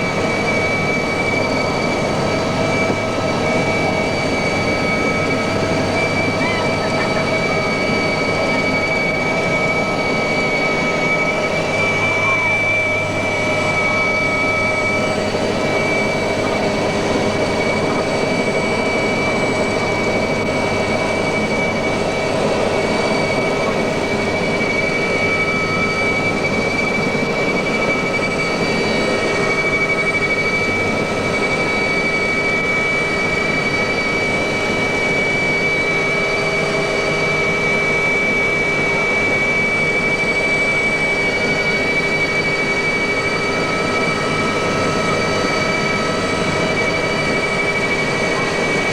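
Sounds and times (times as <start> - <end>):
helicopter engine and rotor drone: 0.0 - 48.9
high whine: 0.0 - 48.9.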